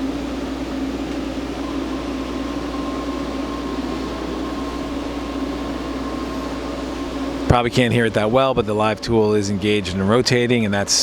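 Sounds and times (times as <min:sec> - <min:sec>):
faint steady whine: 0:00.0 - 0:11.0
lathe humming: 0:00.0 - 0:11.0.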